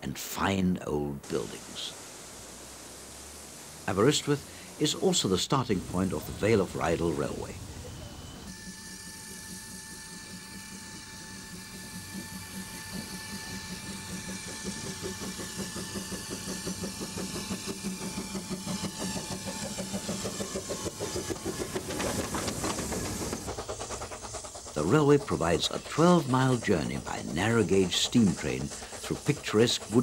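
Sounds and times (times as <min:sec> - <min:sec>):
steam hissing: 0:01.0 - 0:30.0
steam locomotive chuffing: 0:01.2 - 0:30.0.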